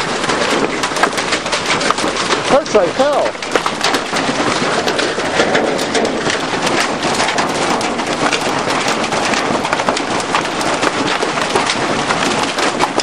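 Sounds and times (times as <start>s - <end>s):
hailstones pelting a roof: 0.0s - 13.0s.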